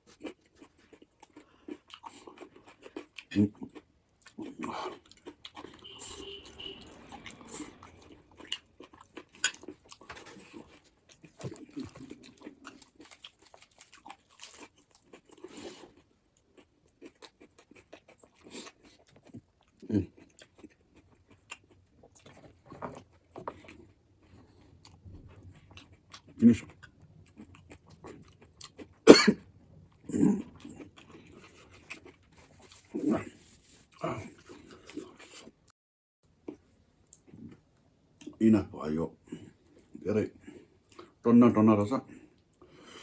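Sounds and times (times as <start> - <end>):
person chewing with wet smacks: 0.0 - 29.0, 29.8 - 35.6, 36.4 - 38.4.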